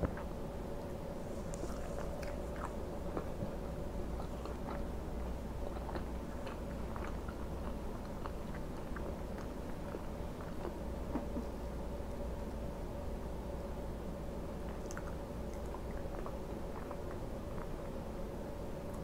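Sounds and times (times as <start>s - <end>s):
close-miked chewing: 0.0s - 12.5s, 14.6s - 18.0s
low background hum: 0.0s - 19.0s.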